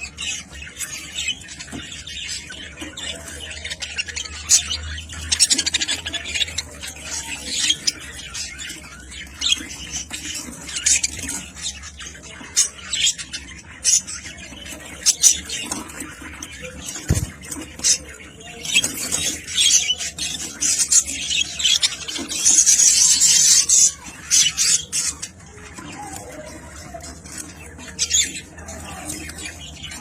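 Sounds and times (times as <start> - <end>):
budgerigars chattering and squawking: 0.0 - 30.0.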